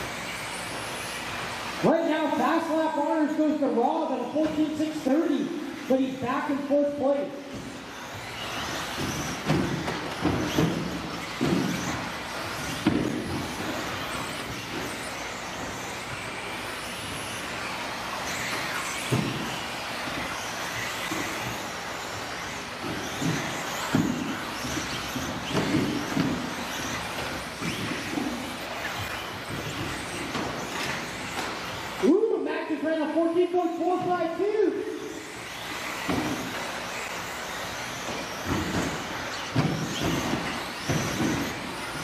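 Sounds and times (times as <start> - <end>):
rc cars landing thumps: 0.0 - 1.8, 7.4 - 32.1, 33.9 - 42.0
rc car motors whirring: 0.0 - 42.0.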